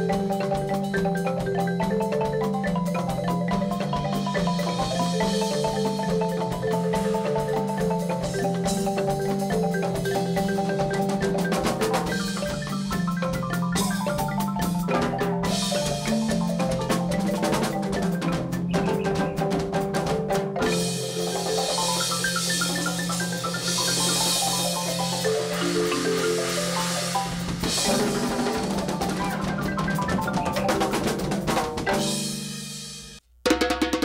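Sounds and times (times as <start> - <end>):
congas: 0.0 - 34.0
drum kit: 0.0 - 34.0
marimba: 0.0 - 34.0.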